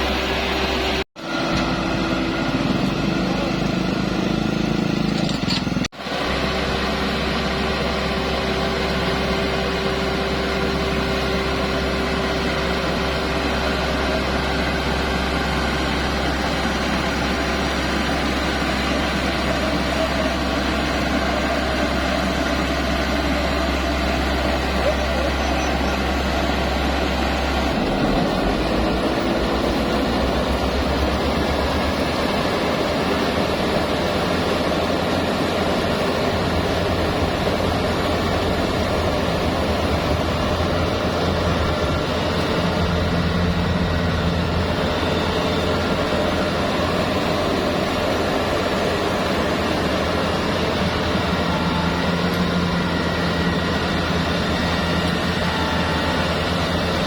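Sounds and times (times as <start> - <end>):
rice harvester engine humming: 0.0 - 57.0.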